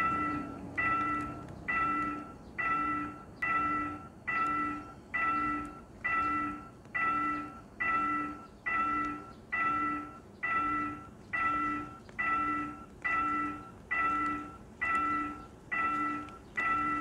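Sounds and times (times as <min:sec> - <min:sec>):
level-crossing warning bell ringing: 0:00.0 - 0:17.0.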